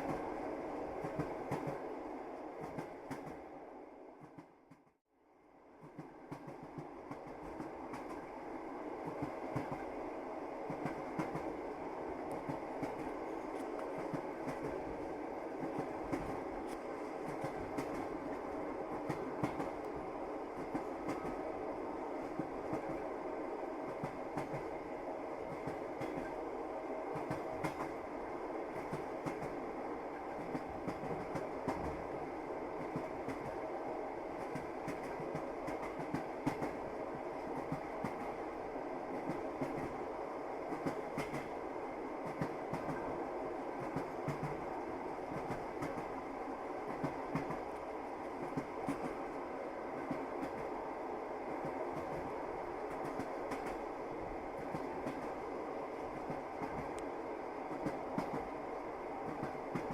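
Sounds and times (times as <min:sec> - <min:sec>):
railway carriage rumble: 0:00.0 - 0:59.9.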